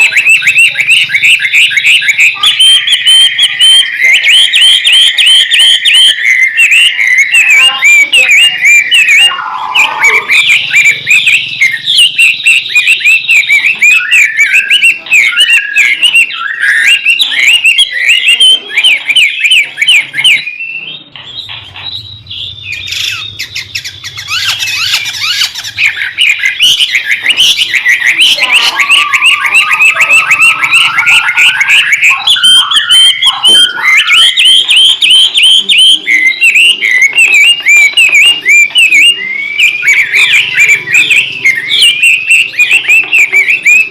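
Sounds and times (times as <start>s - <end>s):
songbird singing rapid whistles: 0.0s - 43.9s.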